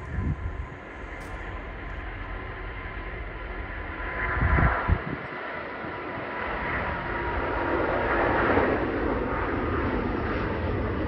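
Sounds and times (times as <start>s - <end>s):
jet engines rushing at takeoff: 0.0s - 11.0s.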